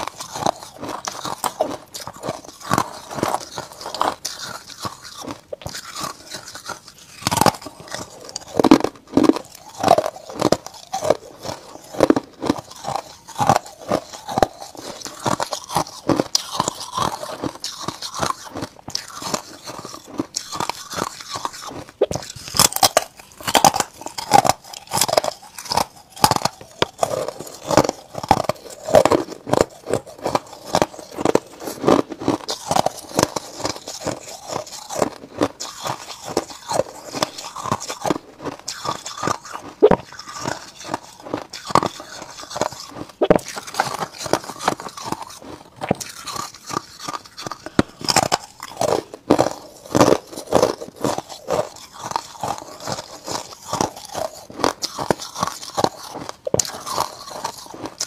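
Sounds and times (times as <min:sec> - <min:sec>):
ice being chewed crunching: 0:00.0 - 0:58.0.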